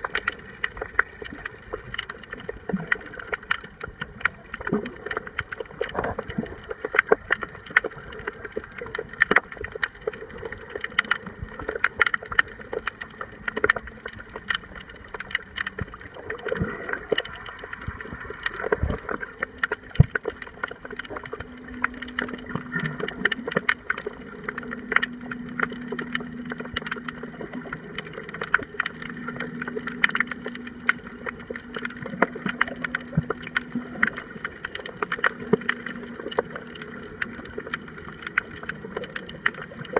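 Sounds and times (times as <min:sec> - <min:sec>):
underwater crackling and clicks: 0:00.0 - 0:39.9.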